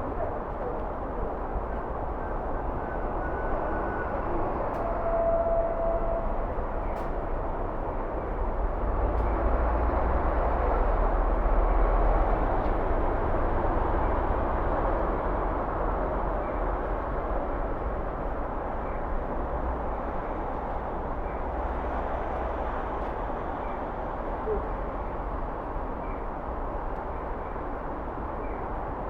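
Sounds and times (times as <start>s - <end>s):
rumble of passing vehicles: 0.0s - 29.0s.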